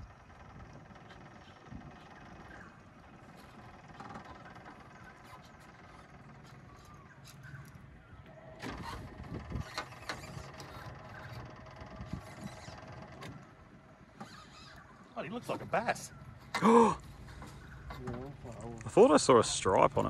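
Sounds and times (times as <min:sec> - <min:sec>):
outboard motor humming: 0:00.0 - 0:20.0.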